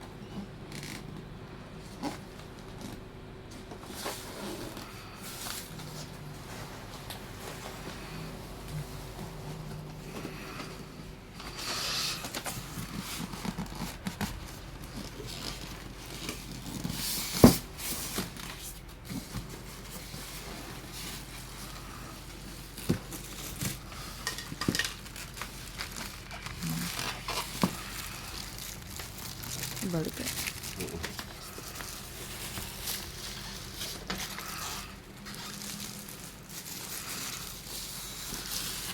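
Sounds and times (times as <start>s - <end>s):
rustling plastic and cardboard: 3.6s - 10.8s, 11.4s - 38.9s.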